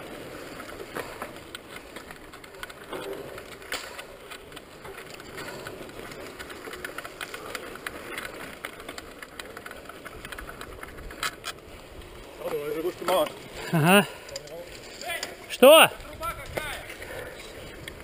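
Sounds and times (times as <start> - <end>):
bike saddle clicks and rattles: 0.1 - 18.0.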